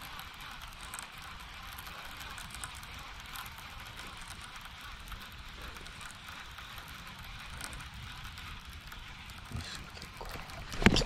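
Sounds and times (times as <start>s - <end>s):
fishing reel whirring: 0.0s - 11.0s.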